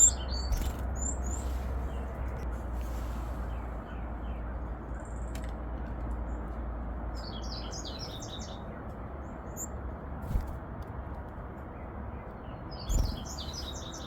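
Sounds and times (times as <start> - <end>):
songbird chirping: 0.0 - 9.8, 11.5 - 14.0.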